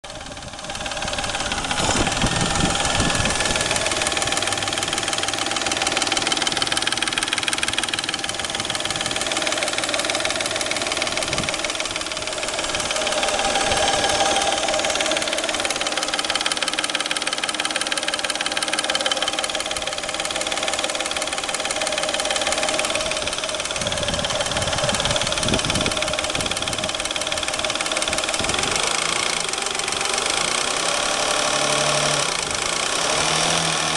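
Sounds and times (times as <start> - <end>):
car engine running: 0.0 - 33.9
rapid even engine knocking: 0.0 - 33.9.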